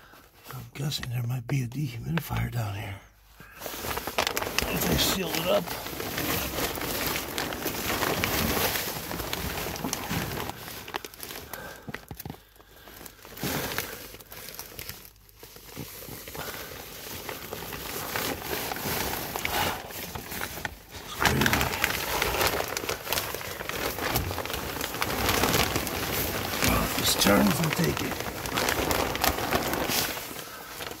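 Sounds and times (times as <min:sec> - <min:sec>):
plastic sheeting crinkling: 0:02.1 - 0:31.0.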